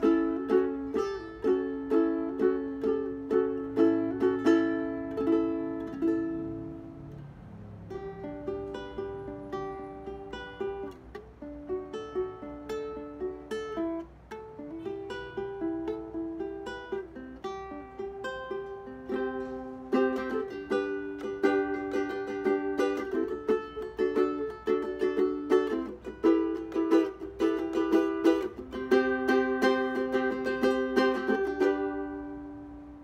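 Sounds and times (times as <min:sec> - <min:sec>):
ukulele played fingerstyle: 0:00.0 - 0:33.0.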